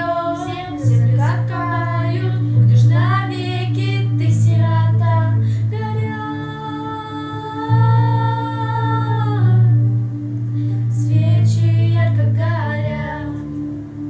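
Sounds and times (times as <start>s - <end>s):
person singing slow sad song: 0.0s - 13.9s
instrumental accompaniment with bass: 0.0s - 14.0s.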